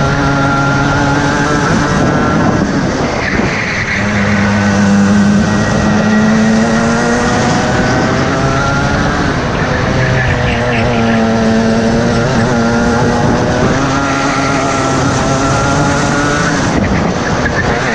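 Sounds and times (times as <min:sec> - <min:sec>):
racing kart engine: 0:00.0 - 0:17.9.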